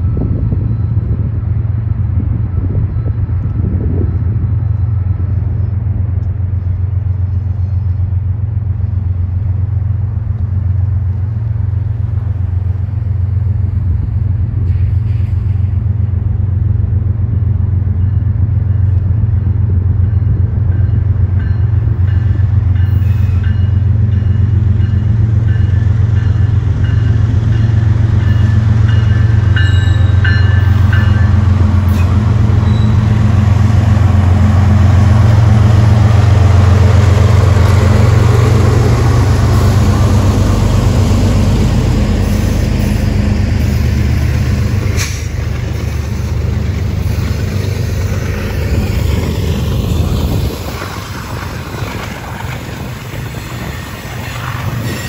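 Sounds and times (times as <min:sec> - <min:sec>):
locomotive engine rumble: 0:00.0 - 0:55.0.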